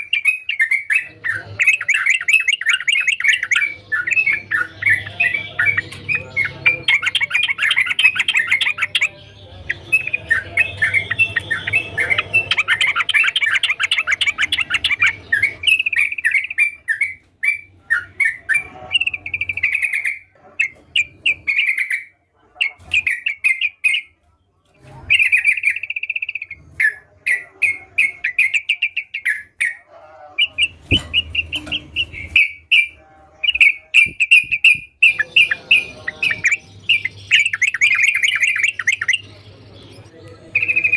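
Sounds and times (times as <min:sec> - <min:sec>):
bird singing bubbly chatter: 0:00.0 - 0:24.2, 0:25.1 - 0:40.9.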